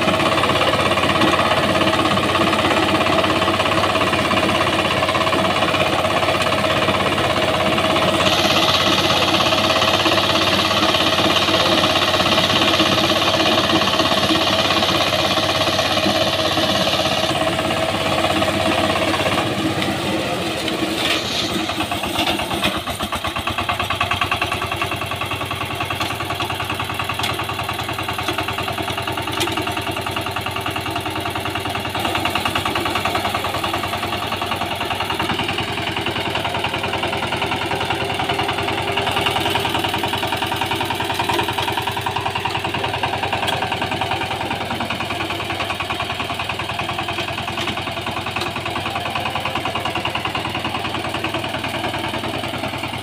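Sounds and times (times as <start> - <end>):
diesel engine running: 0.0 - 53.0
tines churning soil: 0.0 - 53.0.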